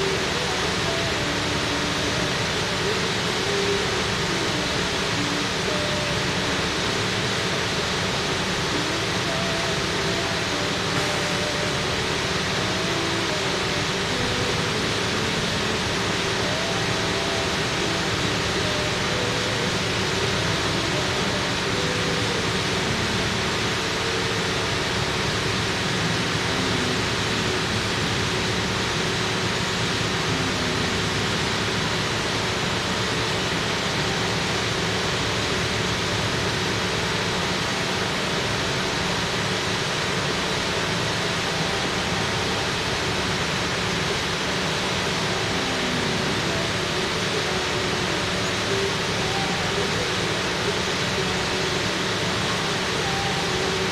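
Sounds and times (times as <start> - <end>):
faint wavering tones: 0.0 - 53.9
steady rushing hiss: 0.0 - 53.9.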